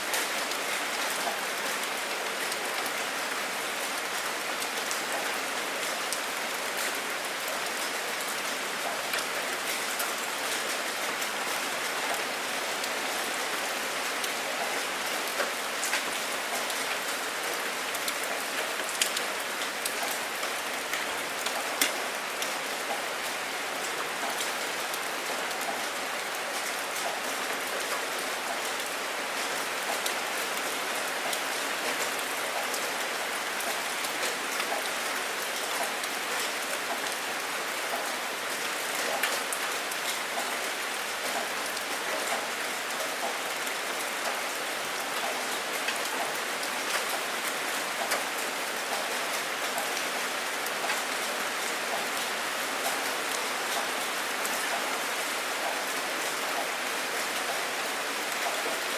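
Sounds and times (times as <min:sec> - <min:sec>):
rain pattering: 0:00.0 - 0:58.9.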